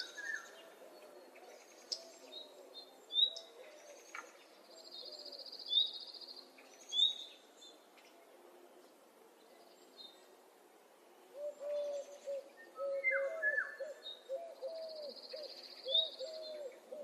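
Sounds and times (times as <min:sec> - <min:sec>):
songbird chirps: 0:00.0 - 0:17.0.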